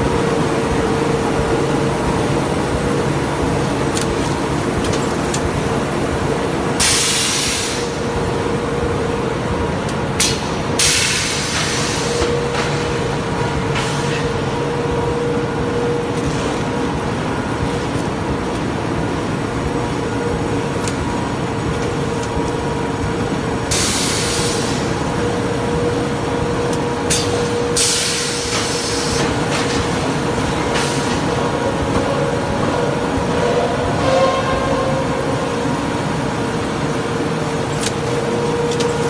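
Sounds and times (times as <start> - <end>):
machine drone with hum: 0.0 - 39.0.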